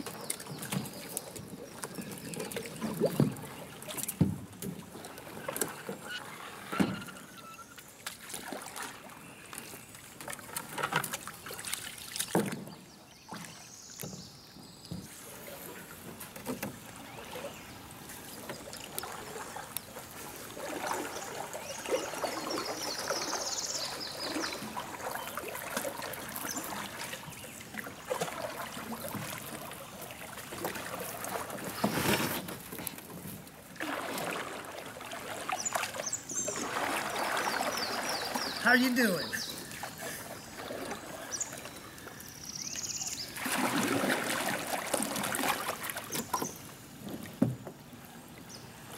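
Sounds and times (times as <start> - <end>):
paddle strokes splashing: 0.0 - 48.9
water trickling around hull: 0.0 - 48.9.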